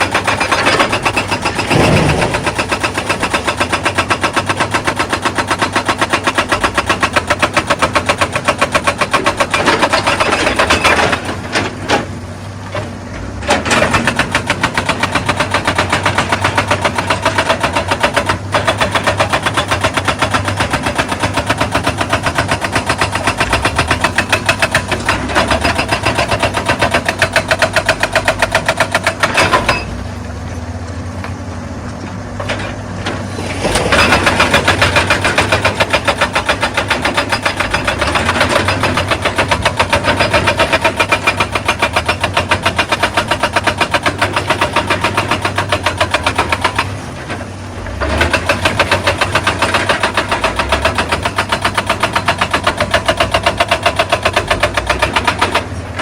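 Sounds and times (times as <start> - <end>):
hydraulic rock breaker hammering stone: 0.0 - 12.2, 12.8 - 30.0, 33.2 - 56.0
diesel engine running: 0.0 - 56.0.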